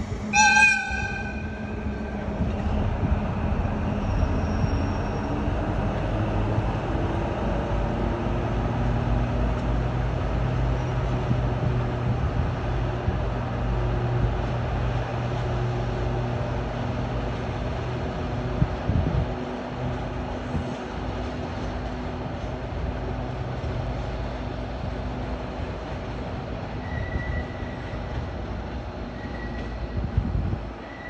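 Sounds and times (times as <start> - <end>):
diesel locomotive engine: 0.0 - 31.0.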